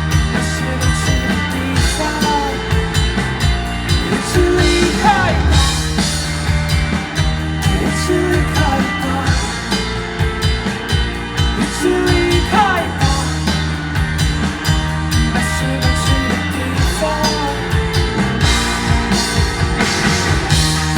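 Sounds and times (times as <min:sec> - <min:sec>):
rock band playing live: 0:00.0 - 0:20.9.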